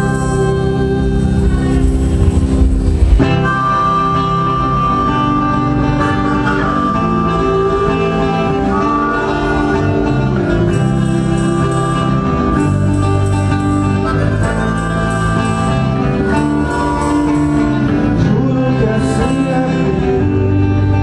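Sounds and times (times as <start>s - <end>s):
band playing live music: 0.0s - 21.0s.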